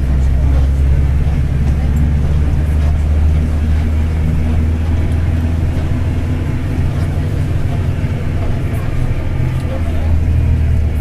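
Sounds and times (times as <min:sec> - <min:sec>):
bus diesel engine droning: 0:00.0 - 0:11.0
driveshaft rumbling: 0:00.0 - 0:11.0.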